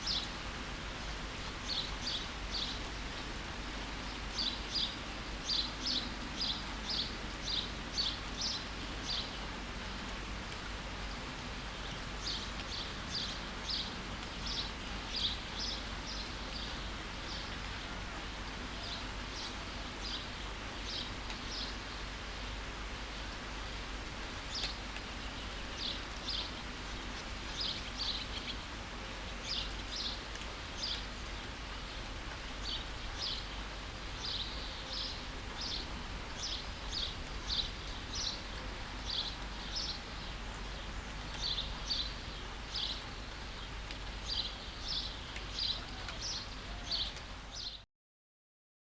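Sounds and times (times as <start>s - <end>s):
steady rain hiss: 0.0s - 47.8s.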